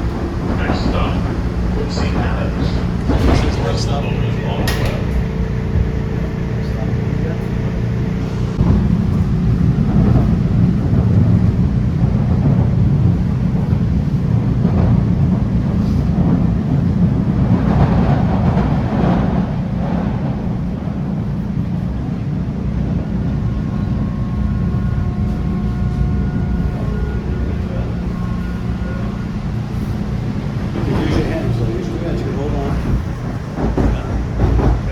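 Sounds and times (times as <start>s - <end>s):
subway wheels rumbling on rails: 0.0s - 34.9s.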